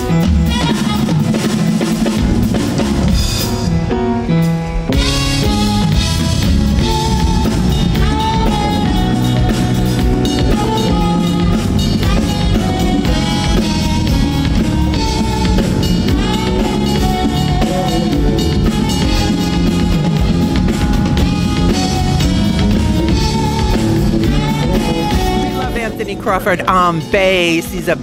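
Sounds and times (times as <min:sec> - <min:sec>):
drum kit playing: 0:00.0 - 0:28.0
electric bass groove: 0:00.0 - 0:28.0
lead melody: 0:02.1 - 0:28.0.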